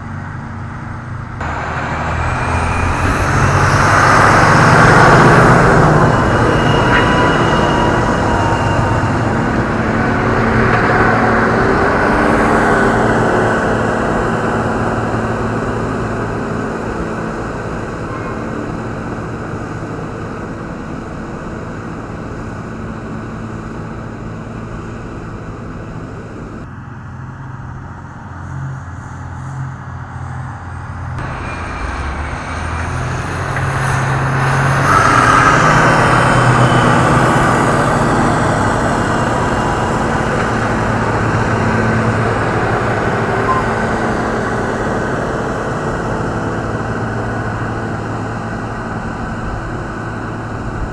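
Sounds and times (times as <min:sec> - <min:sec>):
diesel scraper engines passing: 0:00.0 - 0:50.9
high engine whine: 0:00.0 - 0:50.9.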